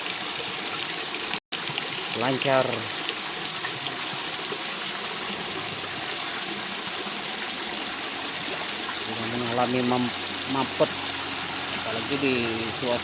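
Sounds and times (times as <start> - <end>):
water gushing into pond: 0.0 - 13.0.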